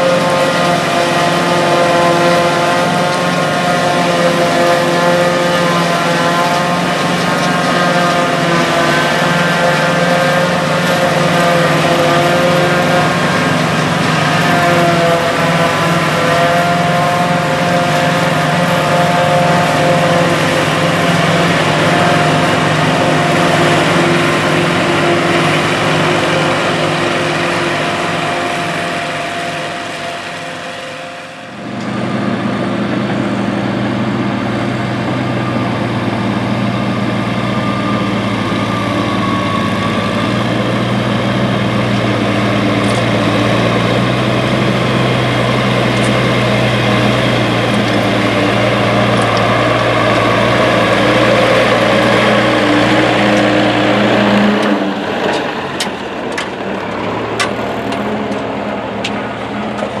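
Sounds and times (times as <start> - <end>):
harvester engine running: 0.0 - 60.0
tractor engine running: 0.0 - 60.0.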